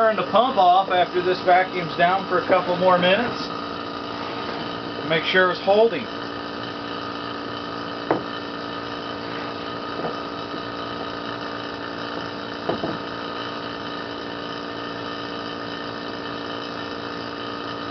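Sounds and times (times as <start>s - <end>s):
vacuum pump running: 0.0s - 17.9s.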